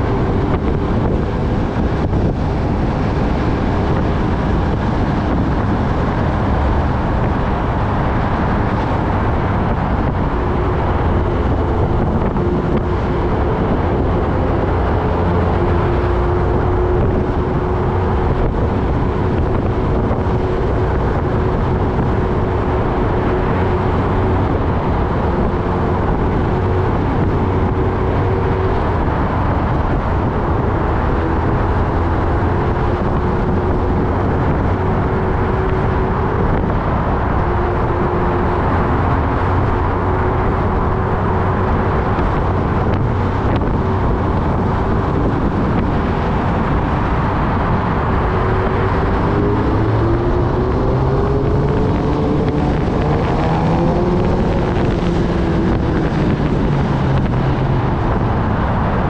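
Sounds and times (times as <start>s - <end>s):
motorcycle engine cruising: 0.0s - 59.0s
riding wind noise: 0.0s - 59.0s.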